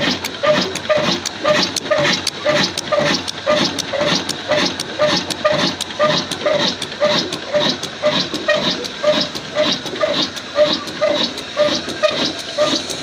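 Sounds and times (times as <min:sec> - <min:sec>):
diesel engine running slowly: 0:00.0 - 0:13.0
sharp clicks: 0:00.0 - 0:13.0.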